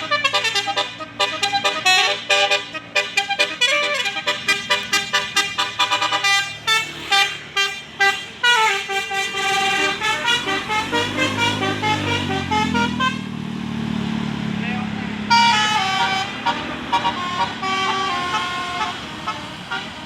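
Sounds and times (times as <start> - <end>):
multi-tone musical air horn: 0.0 - 13.3, 15.3 - 20.0
bus engine rumble: 0.0 - 20.0.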